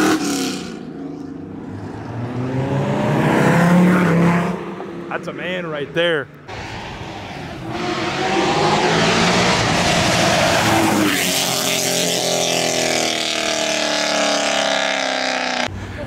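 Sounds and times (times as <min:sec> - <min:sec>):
car engine revving accelerating: 0:01.6 - 0:05.5, 0:06.5 - 0:15.7.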